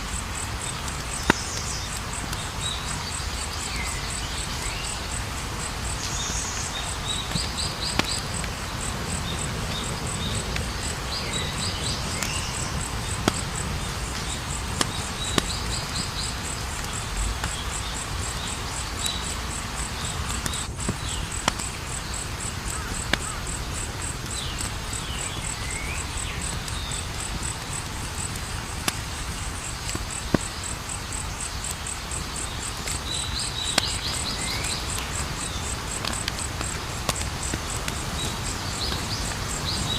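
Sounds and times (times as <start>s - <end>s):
campfire burning and crackling: 0.0s - 39.9s
crickets chirping: 0.0s - 39.9s.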